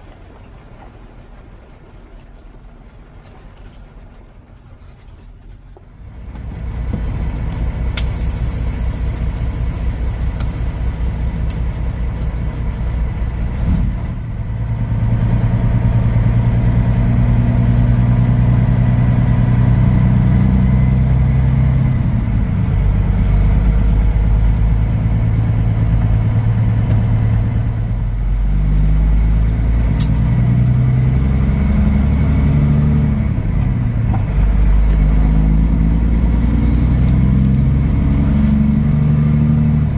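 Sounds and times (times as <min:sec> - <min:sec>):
truck diesel engine shifting gears: 0:06.0 - 0:39.9.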